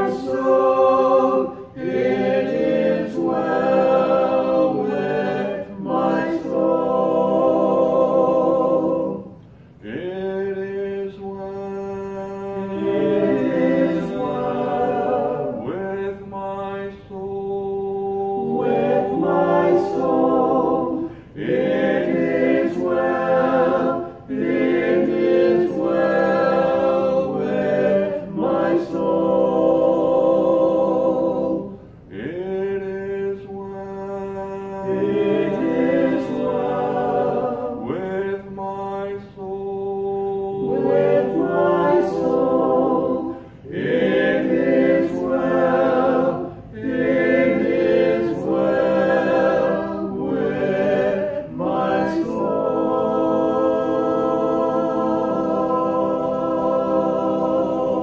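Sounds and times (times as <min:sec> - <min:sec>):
group singing a hymn a cappella: 0:00.0 - 0:58.0.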